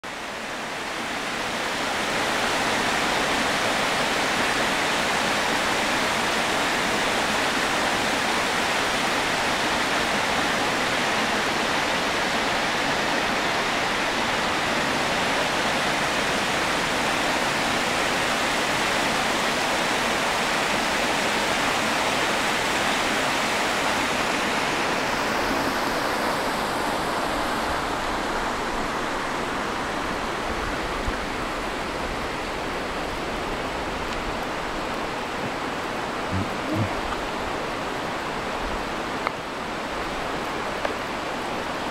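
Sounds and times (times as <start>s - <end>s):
river rushing over rapids: 0.1s - 41.9s.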